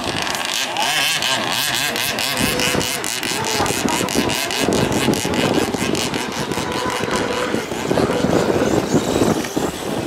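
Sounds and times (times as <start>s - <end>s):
two-stroke boat engine at high revs: 0.0s - 10.0s.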